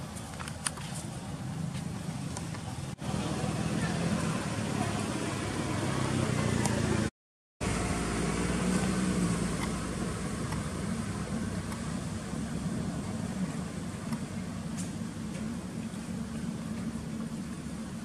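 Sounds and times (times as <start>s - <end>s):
outdoor background rumble: 0.0s - 18.0s.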